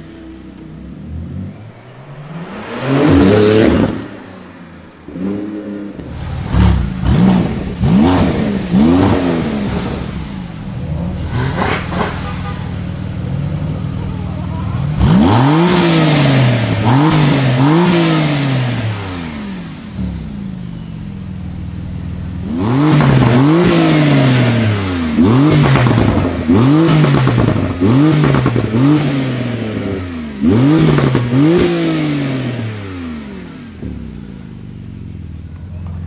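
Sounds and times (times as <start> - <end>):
car engine idling: 0.0 - 17.9, 18.7 - 28.8, 32.6 - 36.0
car engine revving: 0.0 - 36.0.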